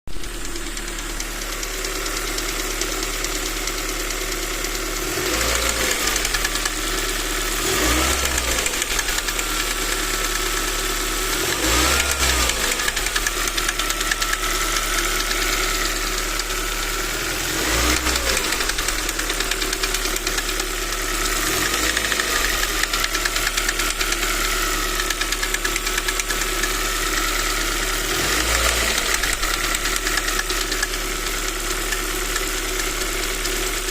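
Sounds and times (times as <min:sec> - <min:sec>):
car engine idling and revving: 0:00.1 - 0:33.9
engine knocking: 0:00.1 - 0:33.9.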